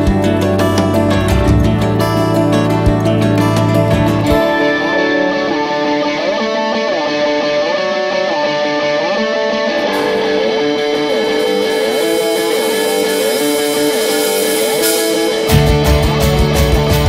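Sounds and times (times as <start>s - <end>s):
guitar instrumental music: 0.0s - 17.0s.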